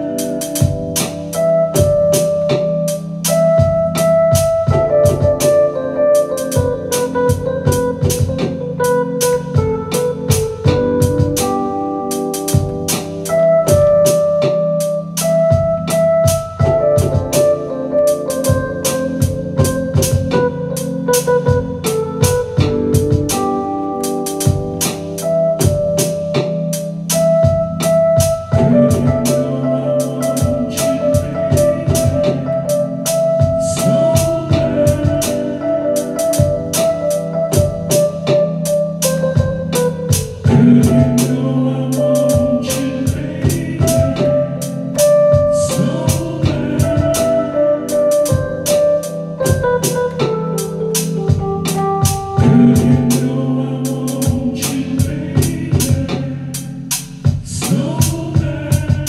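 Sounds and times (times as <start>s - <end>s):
electronic keyboard chords and melody: 0.0s - 59.0s
steady drum beat: 0.0s - 59.0s.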